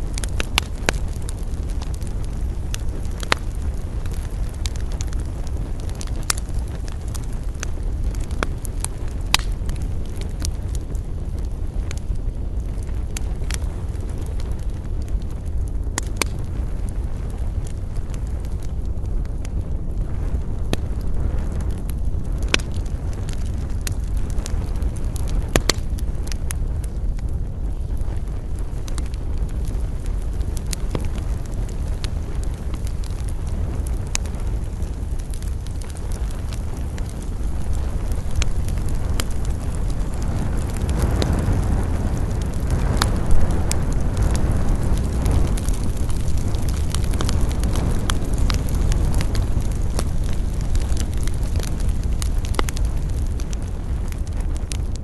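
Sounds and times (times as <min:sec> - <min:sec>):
campfire crackling and popping: 0:00.0 - 0:55.0
low rumble of fire: 0:00.0 - 0:55.0.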